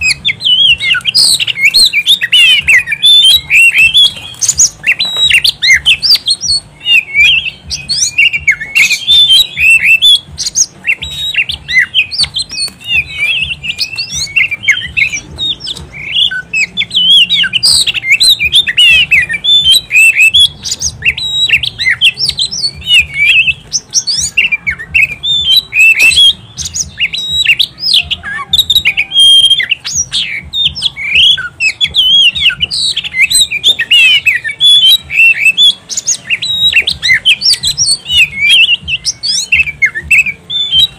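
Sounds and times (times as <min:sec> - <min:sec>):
bird singing whistled song: 0:00.0 - 0:40.9.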